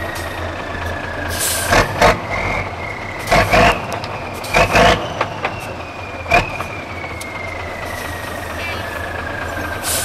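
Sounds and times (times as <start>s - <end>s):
diesel truck engine working hard: 0.0s - 10.0s.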